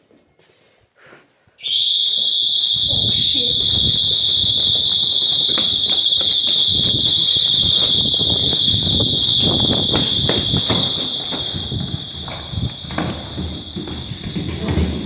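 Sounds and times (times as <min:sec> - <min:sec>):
high-pitched alarm tone: 0:01.6 - 0:15.0
hurried footsteps: 0:02.1 - 0:15.0.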